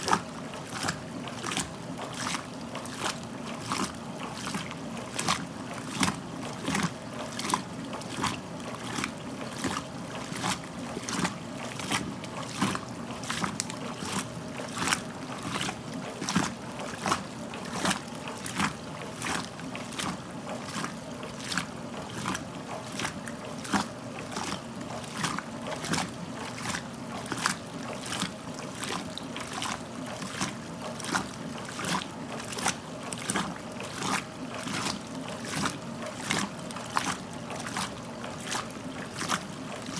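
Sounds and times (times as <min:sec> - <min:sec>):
washing machine motor hum: 0:00.0 - 0:39.9
water and clothes sloshing: 0:00.0 - 0:39.9.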